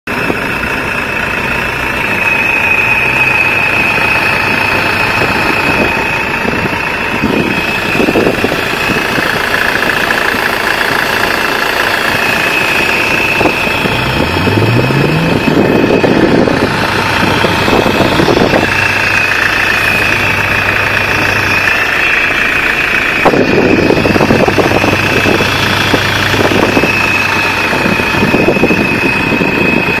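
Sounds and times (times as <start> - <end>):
car engine running: 0.0 - 30.0
power steering whistling: 0.1 - 30.0.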